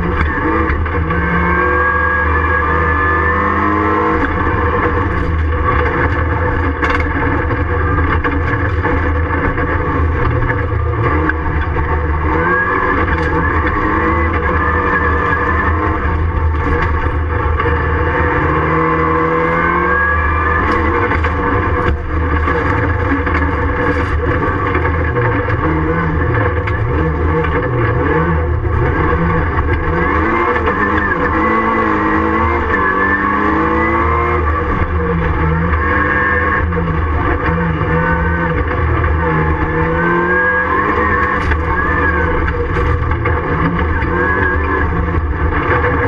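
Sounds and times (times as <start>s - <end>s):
sharp clicks and knocks: 0.0s - 1.4s, 4.1s - 18.8s, 20.5s - 32.8s, 33.9s - 46.0s
car engine running hard: 0.0s - 46.0s
tyre and road noise: 0.0s - 46.0s.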